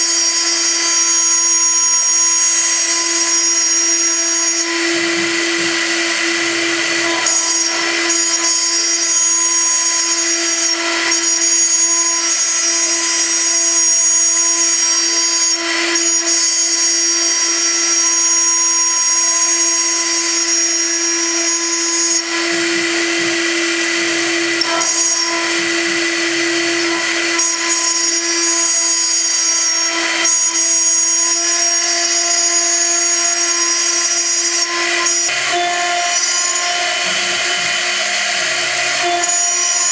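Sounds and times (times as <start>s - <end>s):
cnc milling spindle whine: 0.0s - 39.9s.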